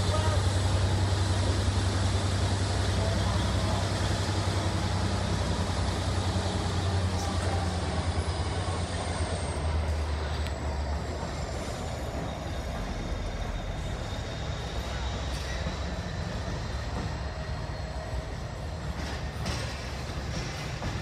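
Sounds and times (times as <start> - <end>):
locomotive engine throbbing: 0.0 - 21.0.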